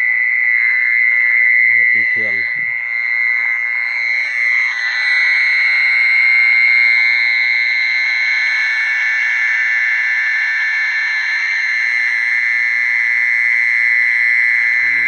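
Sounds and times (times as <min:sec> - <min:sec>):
cricket trill from speaker: 0:00.0 - 0:15.0.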